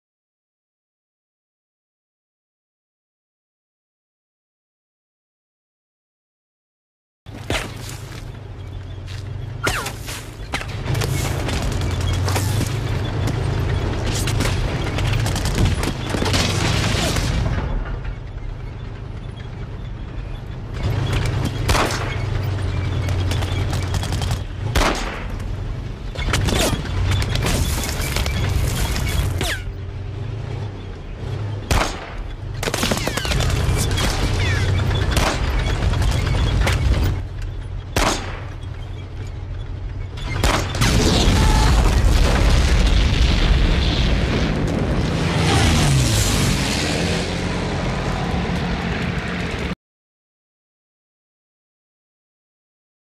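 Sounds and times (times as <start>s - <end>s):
gunshots and explosions: 7.3s - 49.8s
tank rumbling: 7.3s - 49.8s.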